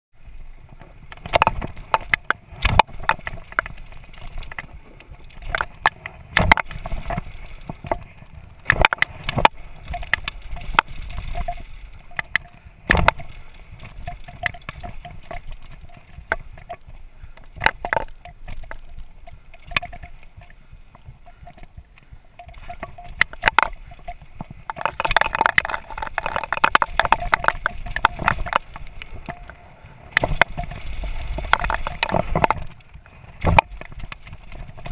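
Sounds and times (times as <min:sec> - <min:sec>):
wind noise on microphone: 0:00.2 - 0:34.9
mountain bike clattering over bumps: 0:00.7 - 0:34.9.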